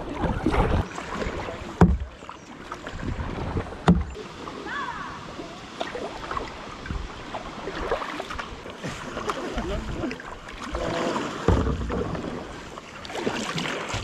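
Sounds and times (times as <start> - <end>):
paddle splashing in water: 0.0 - 14.0.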